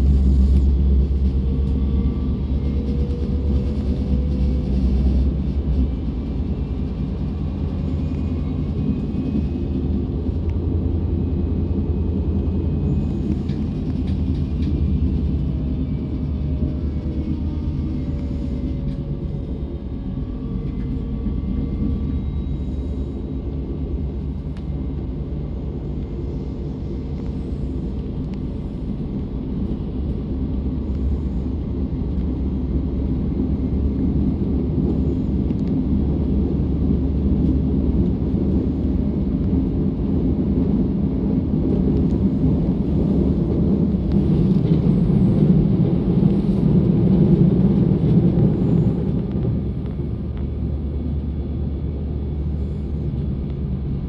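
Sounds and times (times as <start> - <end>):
faint whining tones: 0.0 - 54.0
train rumbling on track: 0.0 - 54.0.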